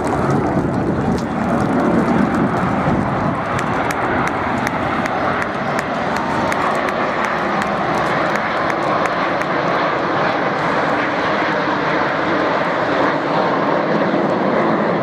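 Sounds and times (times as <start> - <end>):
military aircraft flying over: 0.0 - 15.0.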